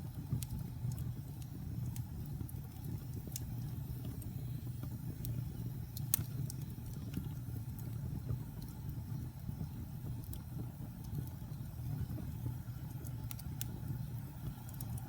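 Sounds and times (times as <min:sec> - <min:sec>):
fire crackling and popping: 0:00.0 - 0:15.0
rumble of fire: 0:00.0 - 0:15.0.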